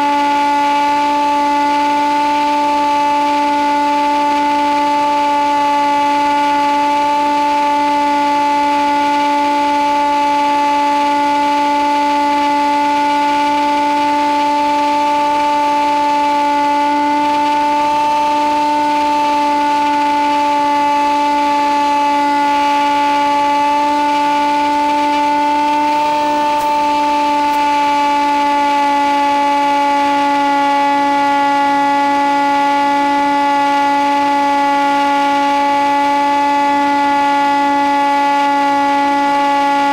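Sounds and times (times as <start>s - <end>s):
model plane motor buzzing whine: 0.0s - 39.9s.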